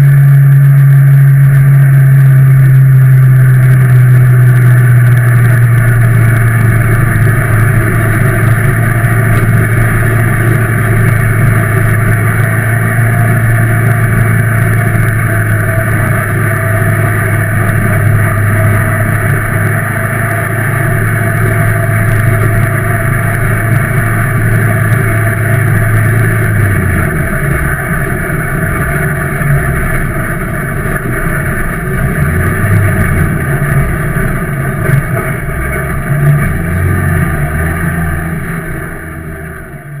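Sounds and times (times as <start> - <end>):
race car engine from inside: 0.0 - 40.0.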